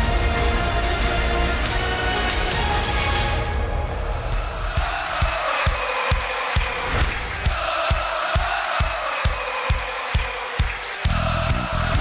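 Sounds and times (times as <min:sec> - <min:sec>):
theme music with heavy beat: 0:00.0 - 0:12.0.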